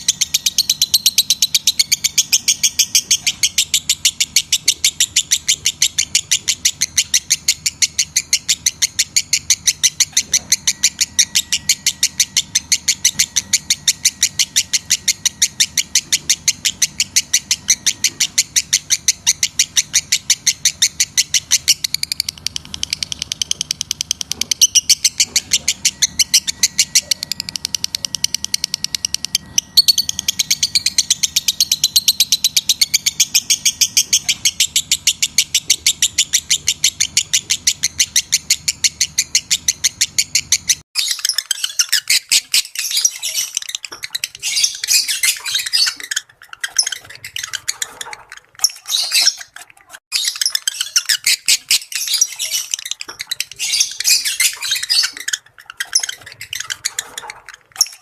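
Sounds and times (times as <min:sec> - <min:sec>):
lovebird chirping: 0:00.0 - 0:58.0.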